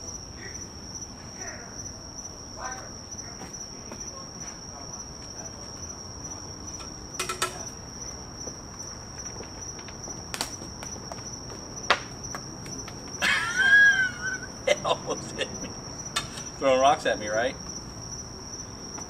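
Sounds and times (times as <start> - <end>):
high insect chirr: 0.0 - 19.0.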